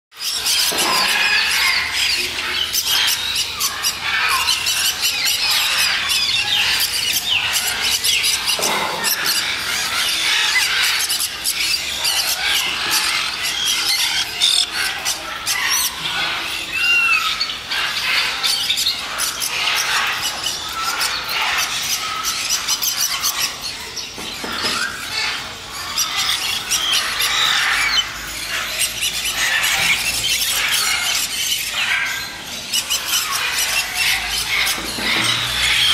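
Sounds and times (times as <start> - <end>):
parrots squealing and screeching: 0.2 - 35.9.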